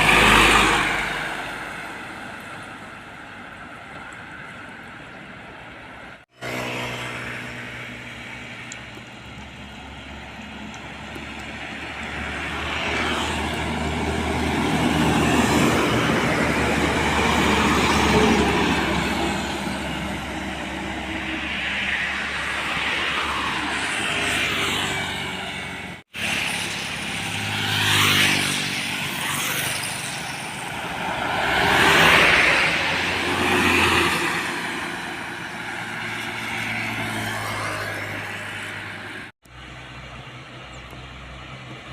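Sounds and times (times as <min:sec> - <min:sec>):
heavy trucks passing: 0:00.0 - 0:41.9.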